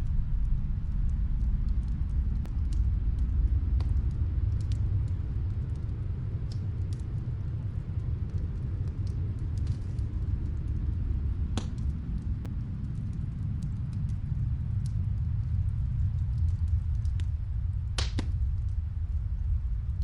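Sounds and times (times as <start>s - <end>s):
snowstorm wind rumbling: 0.0s - 20.0s
wood fire crackling: 0.0s - 20.0s.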